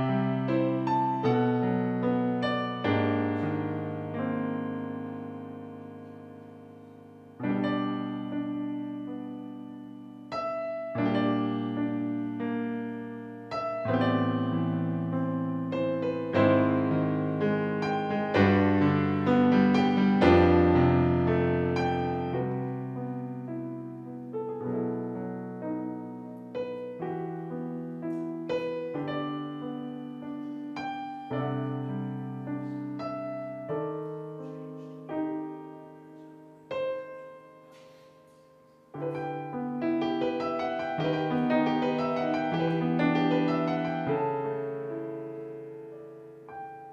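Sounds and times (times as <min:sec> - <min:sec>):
slow solo piano chords: 0:00.0 - 0:46.9.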